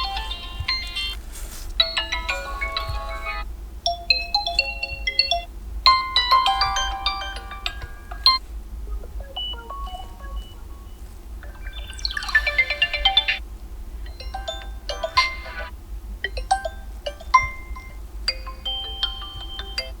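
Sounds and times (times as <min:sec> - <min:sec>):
melodic chime ringtones: 0:00.0 - 0:01.2, 0:01.8 - 0:03.4, 0:04.3 - 0:08.4, 0:09.0 - 0:13.4, 0:14.0 - 0:15.7, 0:16.4 - 0:20.0.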